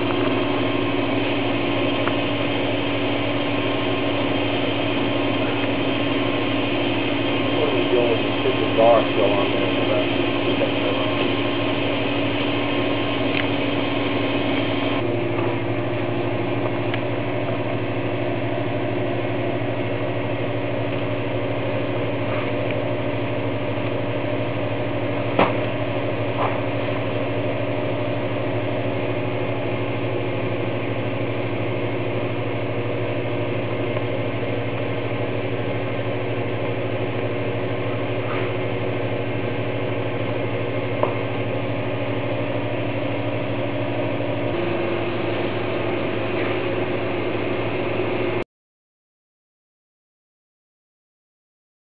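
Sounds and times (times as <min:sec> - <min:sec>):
heat press mechanical hum: 0:00.0 - 0:48.4.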